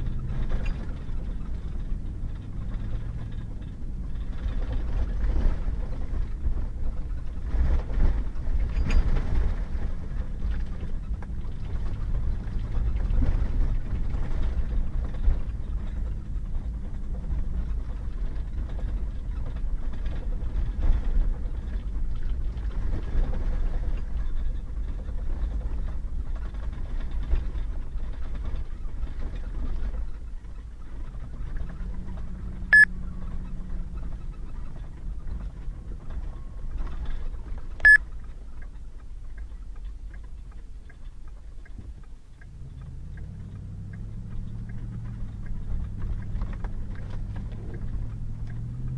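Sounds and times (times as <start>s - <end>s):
truck engine and tyre rumble: 0.0s - 48.9s.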